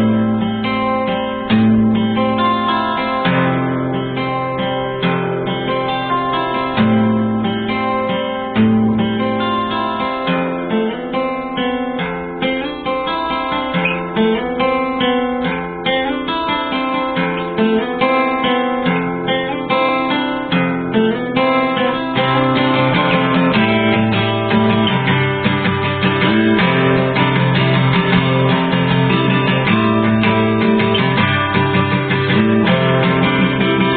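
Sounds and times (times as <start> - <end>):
acoustic guitar plucked and strummed: 0.0 - 33.9.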